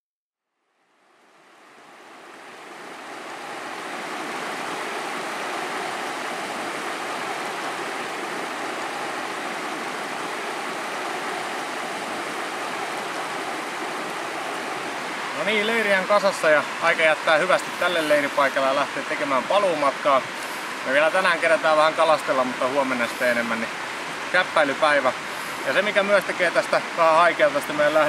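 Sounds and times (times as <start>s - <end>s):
river rushing over rocks: 1.1s - 28.0s.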